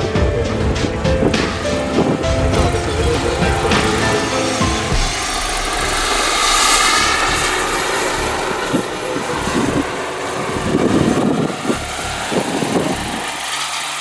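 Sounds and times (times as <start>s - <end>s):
helicopter rotor noise: 0.0s - 14.0s
turbine engine whine: 0.0s - 14.0s
low rumbling gusts: 0.2s - 13.5s.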